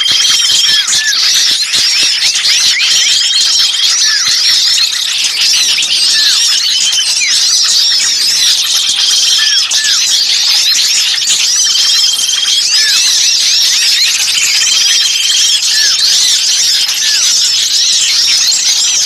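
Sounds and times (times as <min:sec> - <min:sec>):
buzzy bird trill: 0:00.0 - 0:19.0
small birds chirping in chorus: 0:00.0 - 0:19.0.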